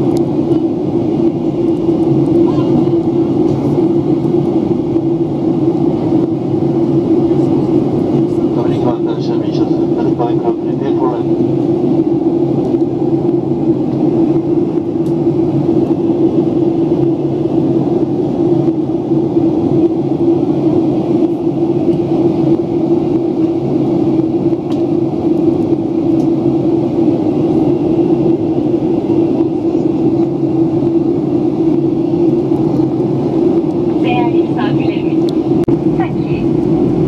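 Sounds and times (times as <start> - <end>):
constant low hum: 0.0 - 37.0
jet engine and airflow rumble: 0.0 - 37.0.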